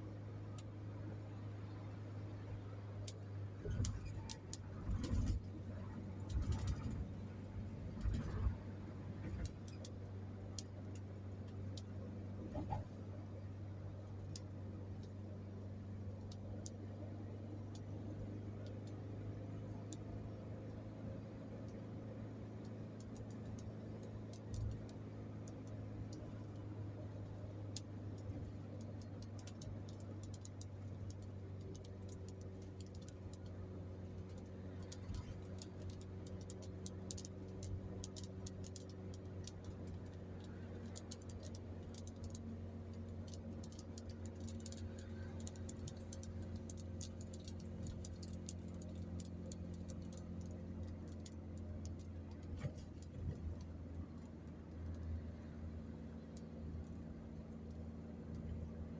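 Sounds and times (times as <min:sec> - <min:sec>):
car cabin driving drone: 0:00.0 - 0:58.9
light irregular ticks: 0:00.4 - 0:58.9.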